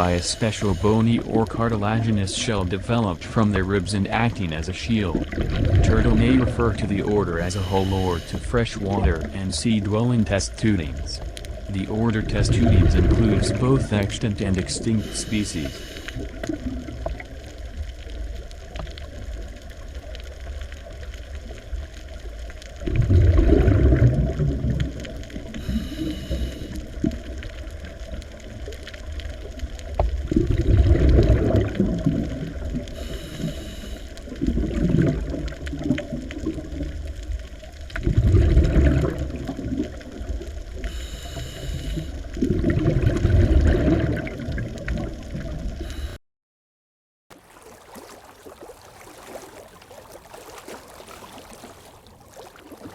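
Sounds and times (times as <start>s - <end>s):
sea water sloshing: 0.0s - 46.2s, 47.3s - 52.9s.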